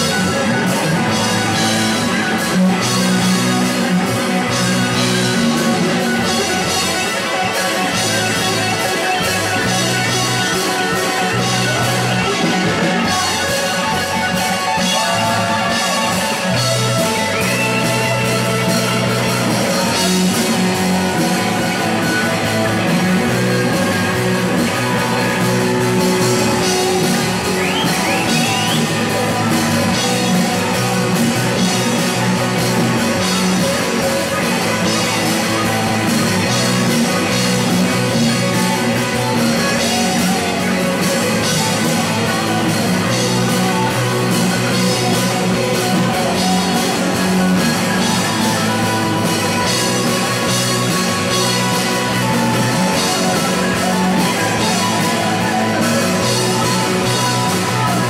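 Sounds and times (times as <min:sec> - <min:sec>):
drums: 0:00.0 - 0:58.0
electric guitars playing lead lines: 0:00.0 - 0:58.0.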